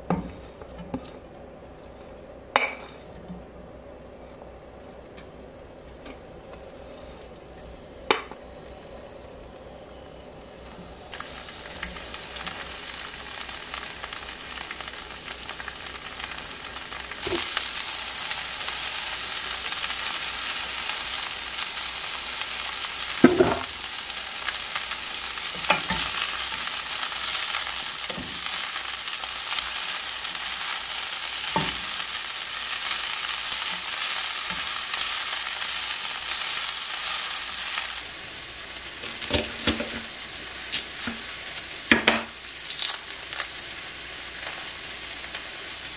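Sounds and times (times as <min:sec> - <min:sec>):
broccoli sizzling in a pan: 0:06.6 - 0:45.9.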